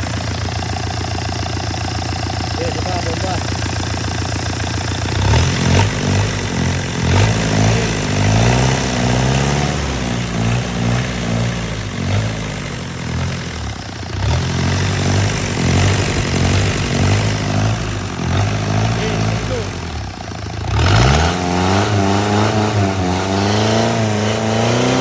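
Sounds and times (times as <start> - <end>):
diesel engine revving: 0.0 - 25.0.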